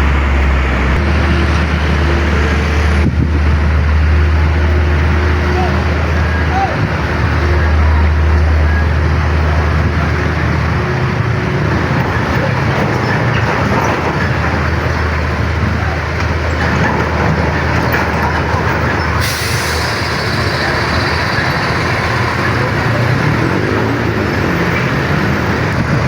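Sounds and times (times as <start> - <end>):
heavy vehicle engines: 0.0 - 26.0
tyre and road noise: 0.0 - 26.0.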